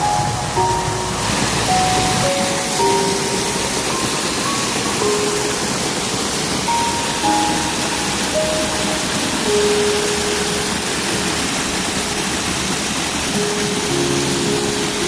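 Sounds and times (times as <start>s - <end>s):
slow melody of held notes: 0.0s - 15.0s
waterfall rushing: 0.0s - 15.0s.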